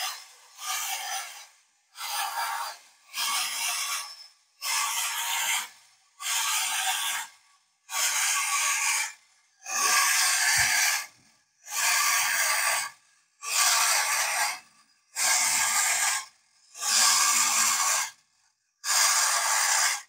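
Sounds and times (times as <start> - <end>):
clockwork toy rasping: 0.0 - 18.2, 18.8 - 20.0.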